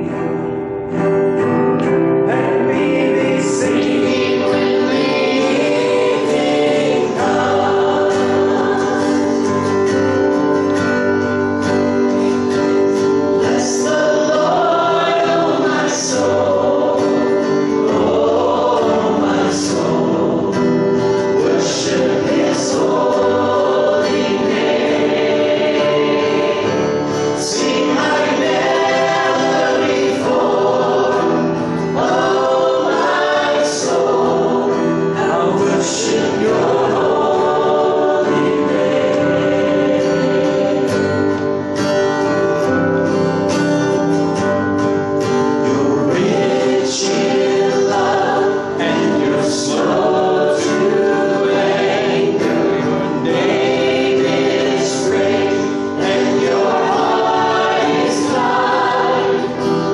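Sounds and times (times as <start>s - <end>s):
group singing in harmony: 0.0s - 43.8s, 45.2s - 59.9s
keyboard: 0.0s - 59.9s
strummed acoustic guitar: 0.0s - 59.9s.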